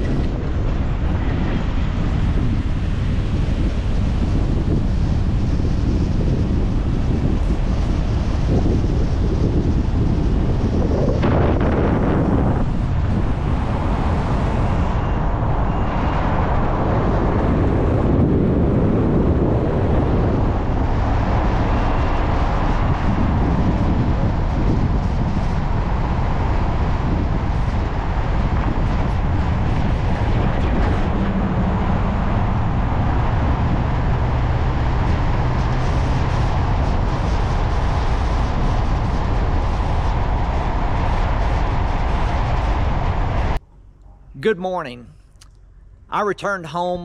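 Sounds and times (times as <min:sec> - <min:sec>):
vehicle road and engine noise: 0:00.0 - 0:44.4, 0:45.0 - 0:47.0
low drone: 0:00.0 - 0:44.5.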